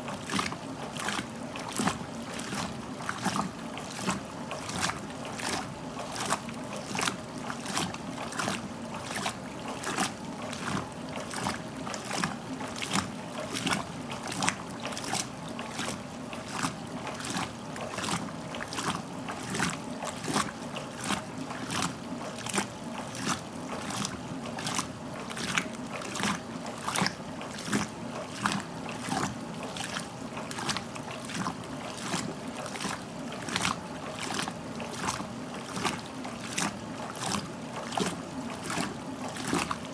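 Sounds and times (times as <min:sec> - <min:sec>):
washing machine motor hum: 0:00.0 - 0:39.9
water sloshing and splashing: 0:00.0 - 0:39.9.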